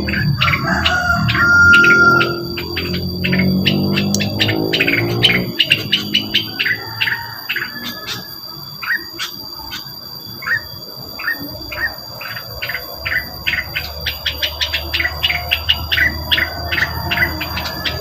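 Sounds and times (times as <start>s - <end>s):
bird lure chirps: 0.0s - 18.0s
high-pitched insect-like ringing: 0.0s - 18.0s.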